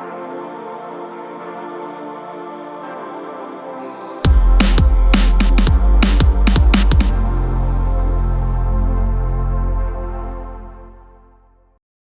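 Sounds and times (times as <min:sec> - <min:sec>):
ambient synth pad music: 0:00.0 - 0:11.8.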